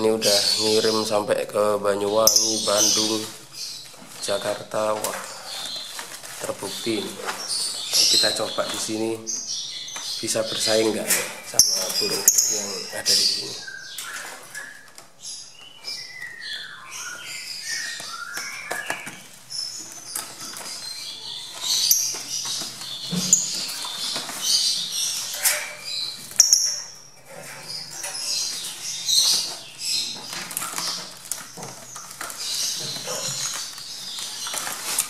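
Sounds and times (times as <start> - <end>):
lovebirds chirping shrilly: 0.0 - 35.0.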